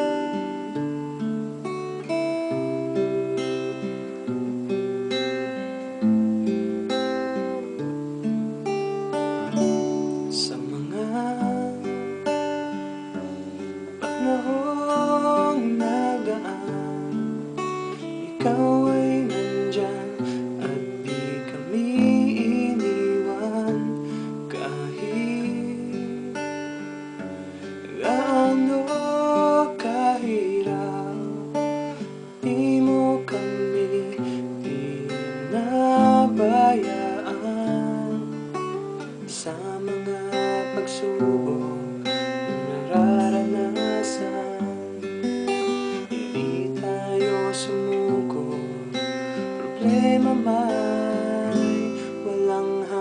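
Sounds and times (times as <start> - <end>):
acoustic guitar strumming chords: 0.0 - 53.0
person singing: 8.9 - 26.9, 27.5 - 53.0.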